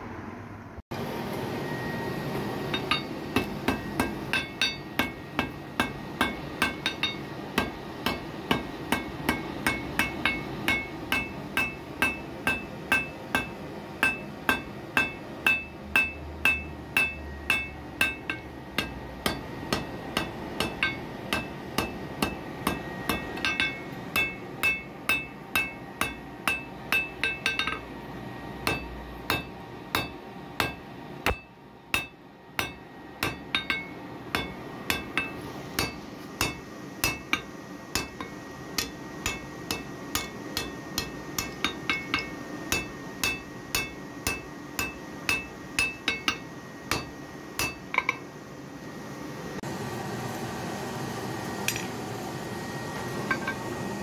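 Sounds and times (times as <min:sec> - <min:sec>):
hammer striking iron on anvil: 0:02.6 - 0:48.3, 0:53.3 - 0:53.7.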